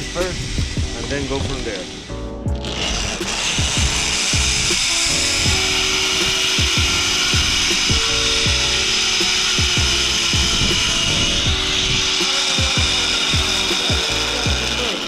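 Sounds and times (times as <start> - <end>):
high-pitched whir: 0.0 - 15.0
music with deep bass kicks: 0.0 - 15.0.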